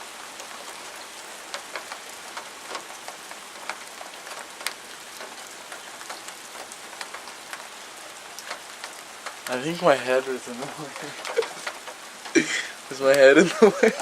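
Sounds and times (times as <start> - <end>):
raindrops ticking close by: 0.0 - 14.0
steady rain hiss: 0.0 - 14.0.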